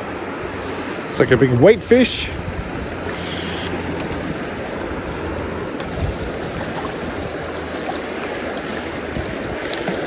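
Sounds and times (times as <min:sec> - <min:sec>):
river flowing over cobbles: 0:00.0 - 0:10.0.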